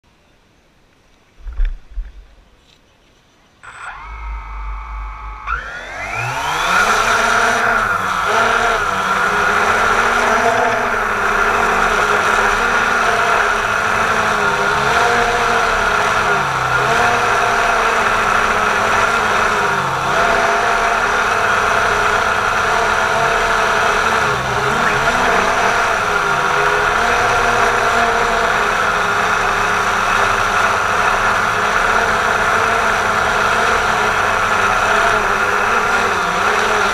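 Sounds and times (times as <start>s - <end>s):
drone motors whining: 3.6s - 36.9s.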